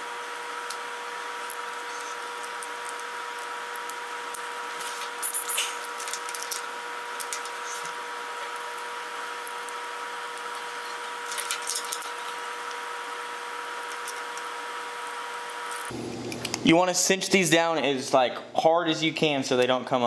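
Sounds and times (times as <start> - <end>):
steady high hum: 0.0 - 20.0.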